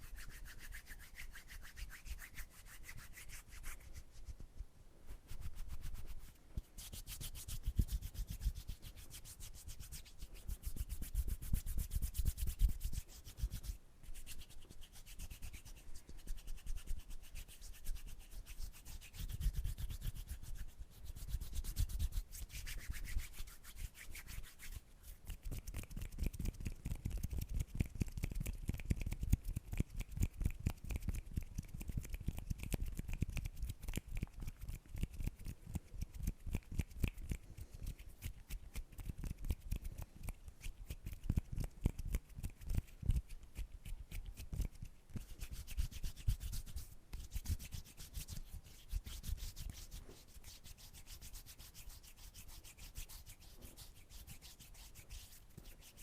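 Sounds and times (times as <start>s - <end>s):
hands rubbing together: 0.0s - 4.4s, 5.1s - 56.0s.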